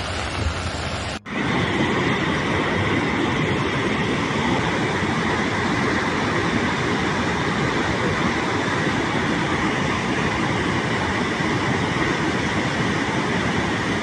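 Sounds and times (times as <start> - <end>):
loud rushing noise: 0.0 - 14.0.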